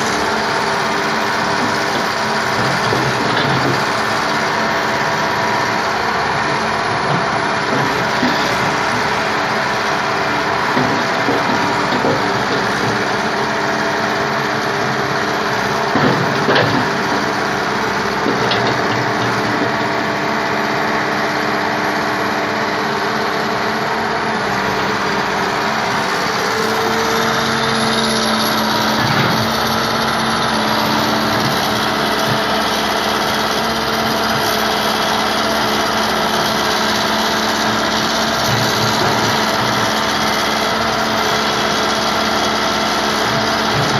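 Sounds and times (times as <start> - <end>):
backhoe engine running: 0.0 - 43.9.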